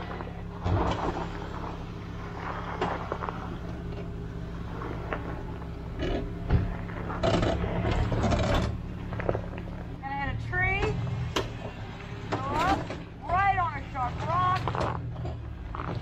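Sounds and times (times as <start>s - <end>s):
vehicle engine low drone: 0.0s - 16.0s
vehicle rattling and creaking: 0.0s - 16.0s.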